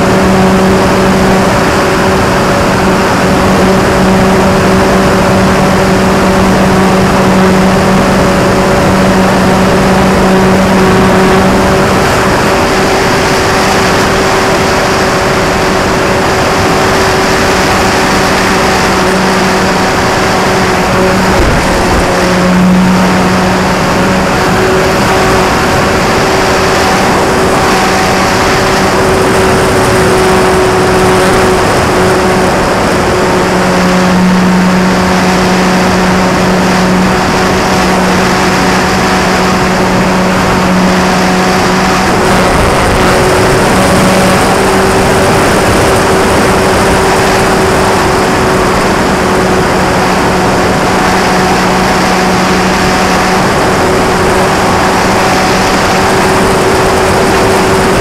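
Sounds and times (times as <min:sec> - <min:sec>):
electric motor and propeller buzzing: 0:00.0 - 0:58.0
wind rush: 0:00.0 - 0:58.0.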